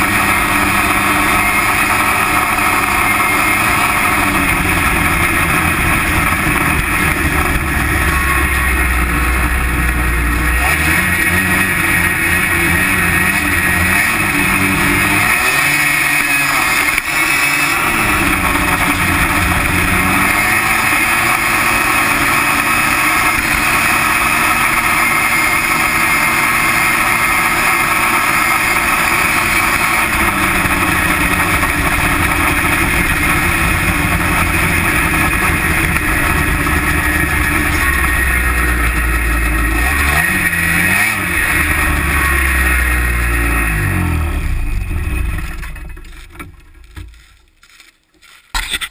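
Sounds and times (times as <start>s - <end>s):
snowmobile engine running hard: 0.0s - 46.0s.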